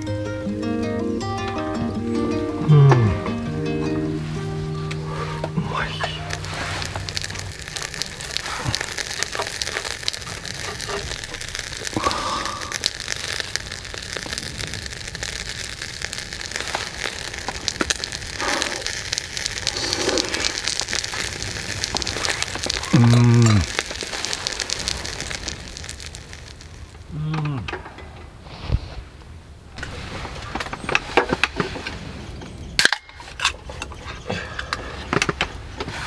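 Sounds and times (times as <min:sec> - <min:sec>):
fish sizzling over charcoal: 0:02.7 - 0:27.6, 0:29.7 - 0:36.0.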